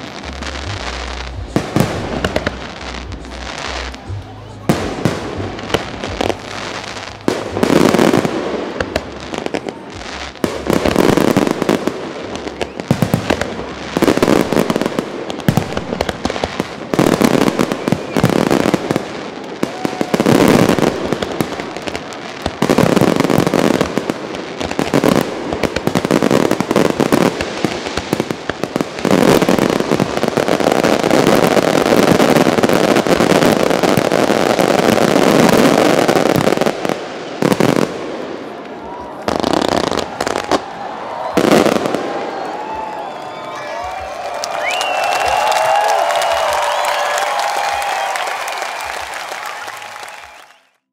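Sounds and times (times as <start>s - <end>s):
fireworks bursting: 0.0s - 50.8s.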